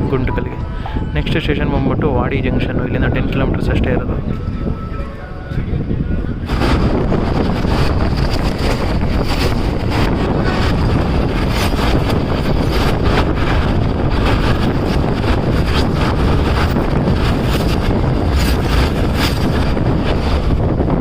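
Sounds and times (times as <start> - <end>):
train wheels rumbling on track: 0.0 - 21.0
wind on microphone: 0.0 - 21.0.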